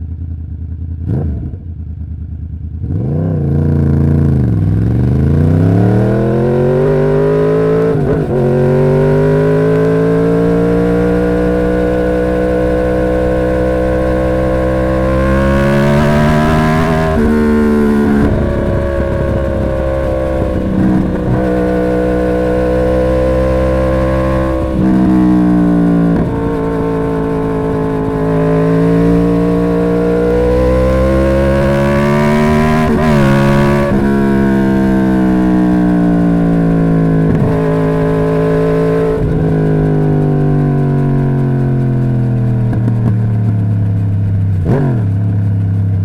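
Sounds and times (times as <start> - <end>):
motorcycle engine revving: 0.1 - 46.0.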